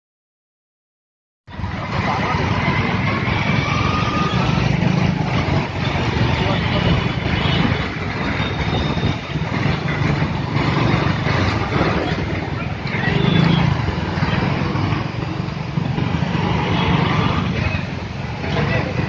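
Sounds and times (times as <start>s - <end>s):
motorcycle and car engines: 1.5s - 19.0s
road noise: 1.5s - 19.0s.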